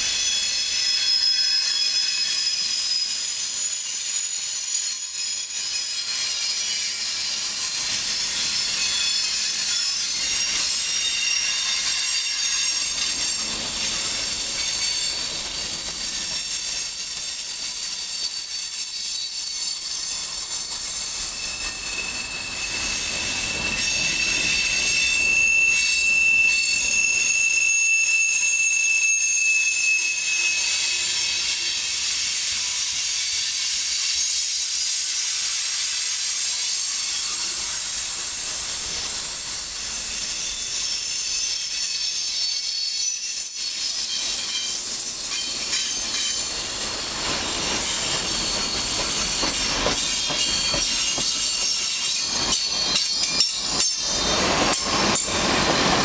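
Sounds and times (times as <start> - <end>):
high-pitched wheel squeals: 0.0 - 32.8, 37.0 - 56.0
freight cars rolling on rails: 0.0 - 56.0.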